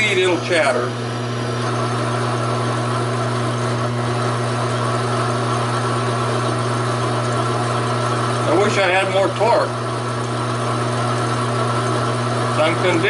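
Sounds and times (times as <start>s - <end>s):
lathe motor humming: 0.0s - 13.0s
metal cutting noise: 0.0s - 13.0s.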